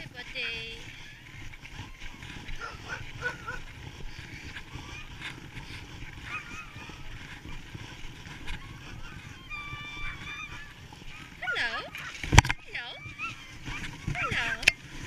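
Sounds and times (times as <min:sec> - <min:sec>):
dogs yelping and howling: 0:00.0 - 0:15.0.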